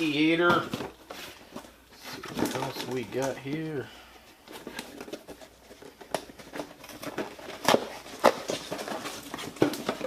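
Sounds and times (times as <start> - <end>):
rummaging through packaging: 0.0 - 10.0.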